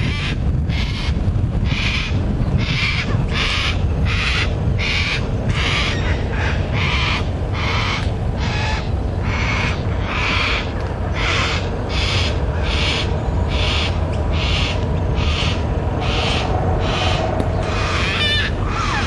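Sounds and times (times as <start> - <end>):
cockatoo begging call rasp: 0.0 - 19.0
low rumble: 0.0 - 19.0.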